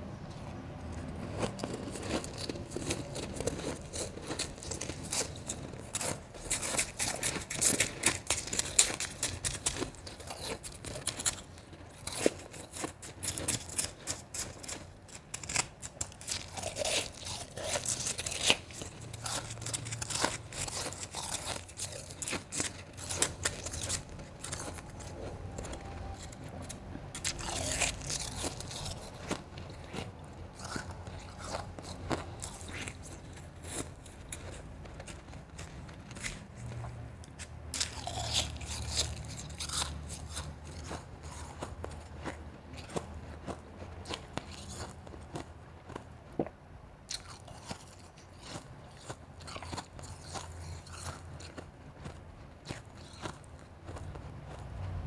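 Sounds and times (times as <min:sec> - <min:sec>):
person chewing crunchy ice: 0:00.2 - 0:55.0.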